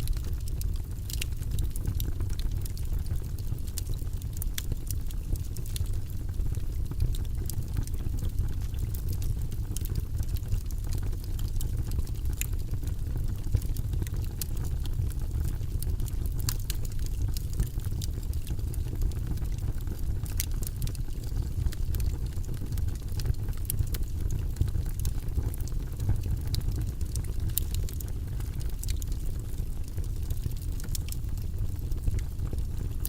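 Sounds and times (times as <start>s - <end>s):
low rumble of flames: 0.0s - 33.0s
wood crackling and popping: 0.0s - 33.0s.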